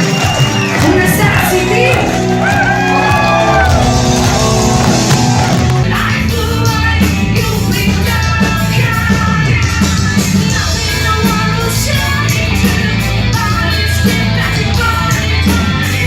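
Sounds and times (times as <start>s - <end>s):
metal band playing live: 0.0s - 16.0s
person singing: 0.8s - 16.0s.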